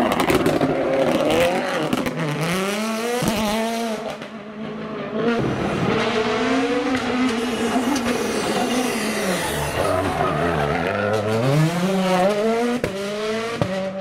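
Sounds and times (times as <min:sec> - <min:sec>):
rally car engine revving hard: 0:00.0 - 0:14.0
second rally car engine revving: 0:00.7 - 0:14.0.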